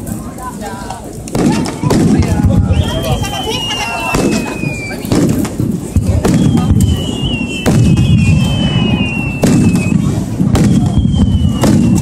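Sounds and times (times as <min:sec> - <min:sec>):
firework shells bursting: 0:00.9 - 0:12.0
falling firework whistle: 0:02.3 - 0:12.0.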